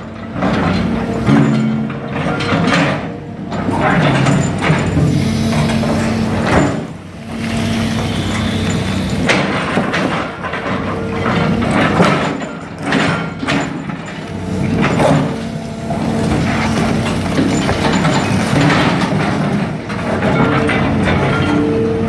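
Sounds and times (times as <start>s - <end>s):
excavator engine under load: 0.0s - 22.0s.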